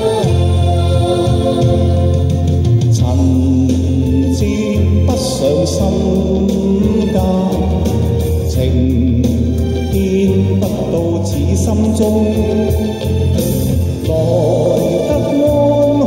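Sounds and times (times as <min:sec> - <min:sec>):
steady bass: 0:00.0 - 0:16.0.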